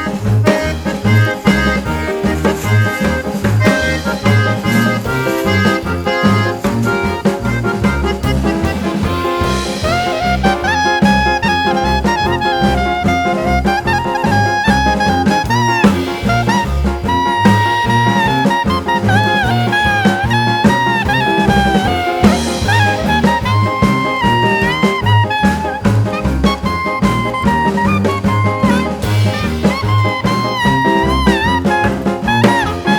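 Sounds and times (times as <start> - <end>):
jazz swing music with brass: 0.0 - 32.9.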